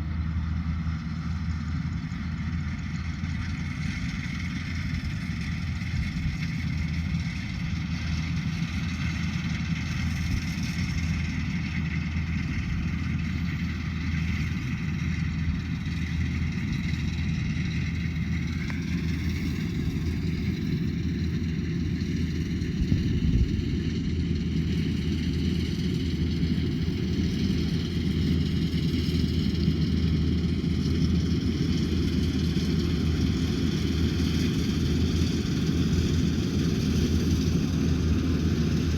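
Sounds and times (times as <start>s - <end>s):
harvester engine drone: 0.0s - 38.9s.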